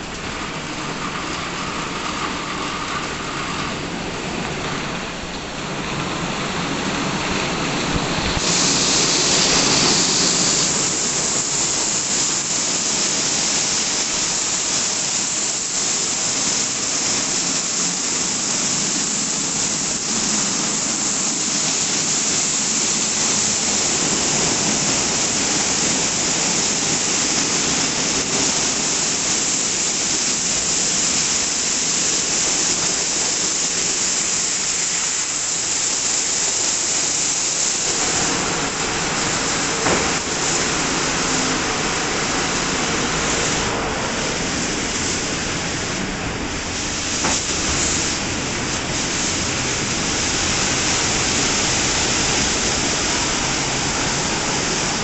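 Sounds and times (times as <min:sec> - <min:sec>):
car wash brushes and water spray: 0:00.0 - 0:55.0
sharp hiss: 0:05.0 - 0:55.0.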